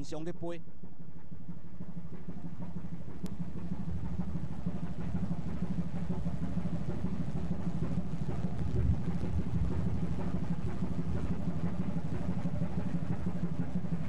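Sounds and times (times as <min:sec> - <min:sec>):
ship engine drone: 0:00.0 - 0:14.0.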